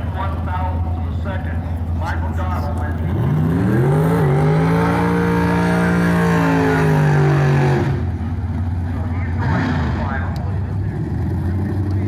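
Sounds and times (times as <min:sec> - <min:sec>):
drag car engine revving: 0:00.0 - 0:12.0.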